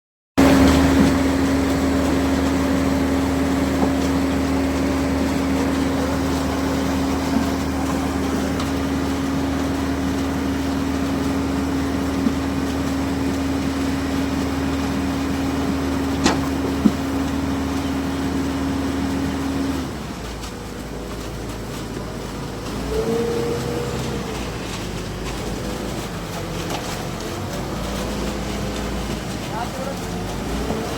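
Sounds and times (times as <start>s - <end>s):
concrete mixer engine humming: 0.4s - 30.9s.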